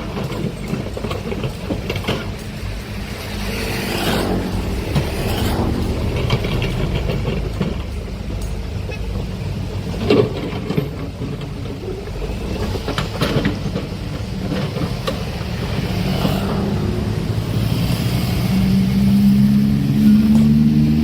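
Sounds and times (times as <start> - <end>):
metal clanks: 0.0 - 18.0
diesel machinery engine rumble: 0.0 - 21.0.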